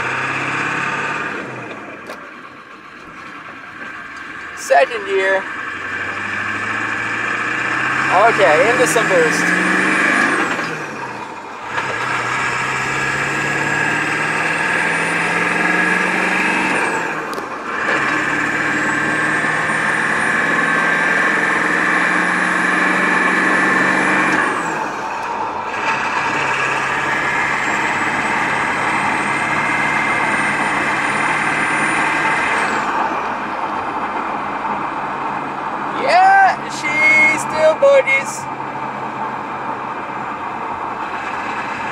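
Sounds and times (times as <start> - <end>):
diesel truck engine accelerating: 0.0 - 41.9.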